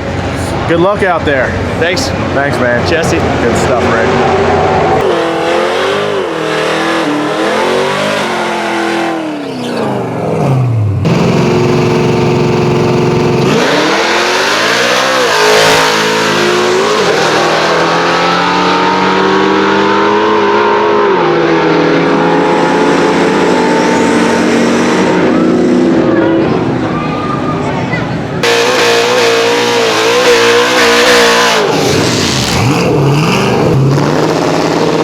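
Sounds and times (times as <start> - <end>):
car engine at full throttle: 0.0 - 27.0, 28.2 - 35.0.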